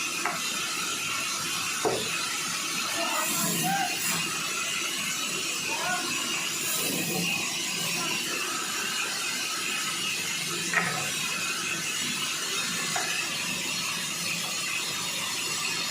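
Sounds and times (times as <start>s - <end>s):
sawmill machinery running: 0.0s - 15.9s.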